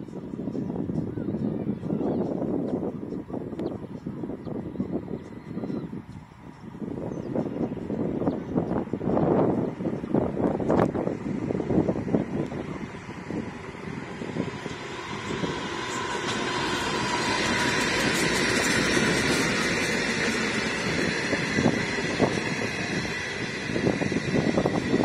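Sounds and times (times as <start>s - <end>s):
train passing on track: 0.0s - 25.0s
wind buffeting microphone: 0.0s - 25.0s.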